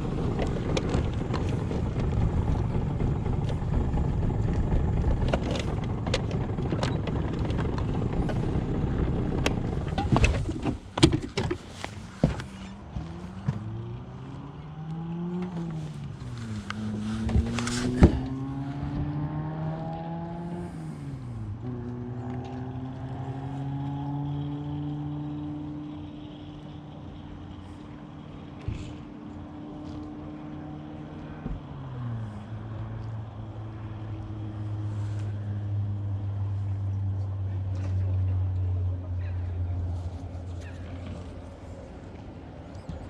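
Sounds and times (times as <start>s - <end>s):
boat motor running: 0.0s - 43.0s.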